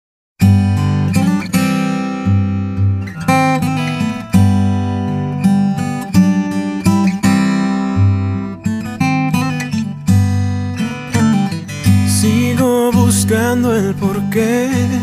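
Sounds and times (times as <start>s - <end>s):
acoustic guitar playing: 0.4s - 15.0s.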